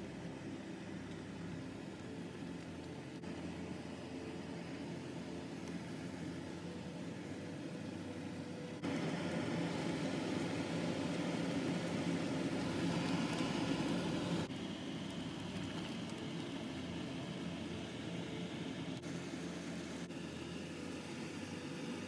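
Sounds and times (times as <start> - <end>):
stove hum and hiss: 0.0 - 22.0.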